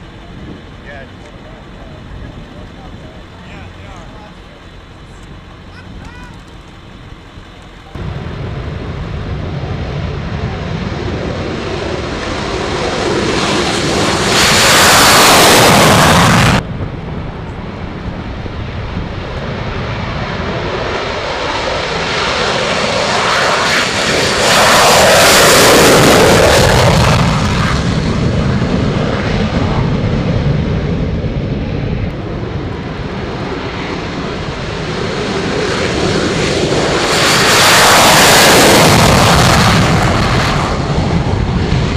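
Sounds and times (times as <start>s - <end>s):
jet engine roar: 0.0s - 41.9s.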